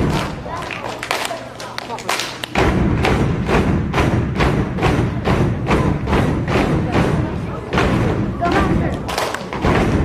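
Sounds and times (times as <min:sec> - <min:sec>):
people stomping and clapping: 0:00.0 - 0:10.0.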